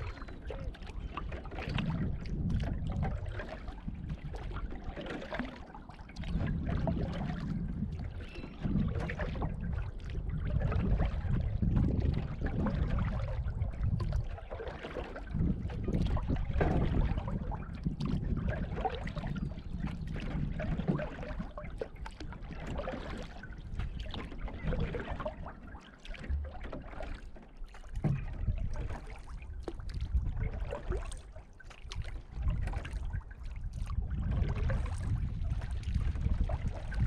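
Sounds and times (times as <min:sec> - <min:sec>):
paddle dipping in water: 0:00.0 - 0:37.0
water trickling against hull: 0:00.0 - 0:37.0.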